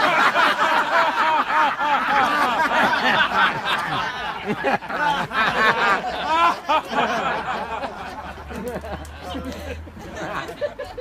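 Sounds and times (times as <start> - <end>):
people cheering and laughing: 0.0 - 11.0.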